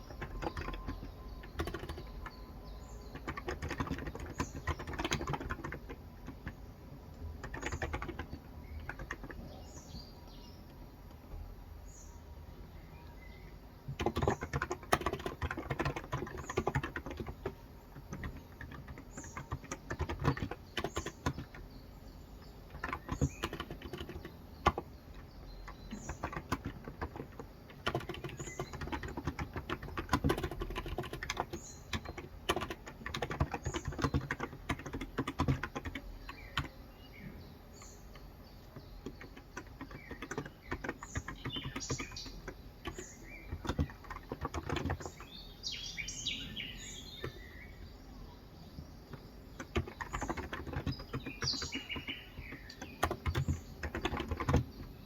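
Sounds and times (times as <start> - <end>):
soft keyboard typing: 0.0 - 11.5, 13.9 - 55.0
birds chirping: 0.0 - 55.0.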